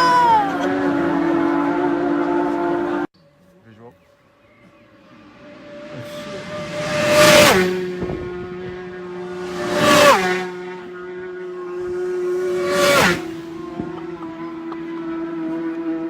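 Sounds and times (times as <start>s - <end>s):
motorcycles passing at high speed: 0.0s - 3.1s, 4.6s - 16.0s.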